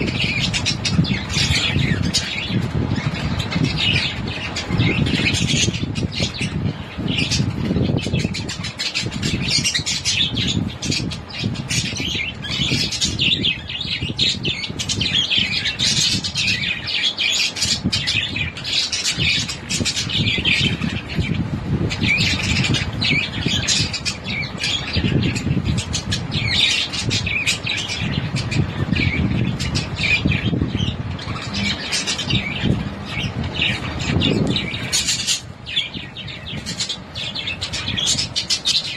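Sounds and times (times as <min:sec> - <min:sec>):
low background rumble: 0:00.0 - 0:38.9
parrots chirping and squawking: 0:00.0 - 0:38.9.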